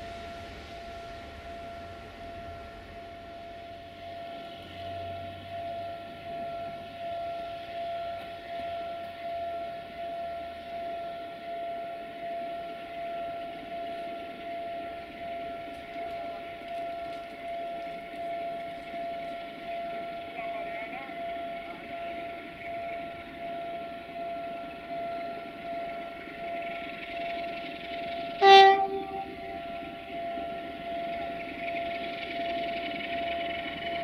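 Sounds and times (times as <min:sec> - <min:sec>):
locomotive whine: 0:00.0 - 0:34.0.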